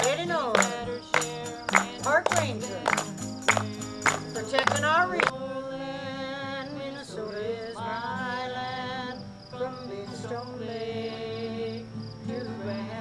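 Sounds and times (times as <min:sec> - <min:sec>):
person singing folk song: 0:00.0 - 0:13.0
strummed acoustic guitar: 0:00.0 - 0:13.0.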